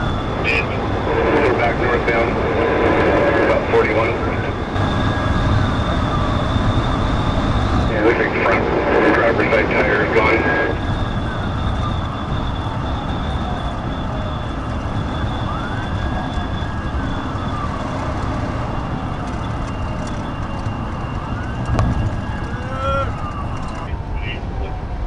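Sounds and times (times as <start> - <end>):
police siren wailing: 0.0 - 25.0
road and engine noise: 0.0 - 25.0.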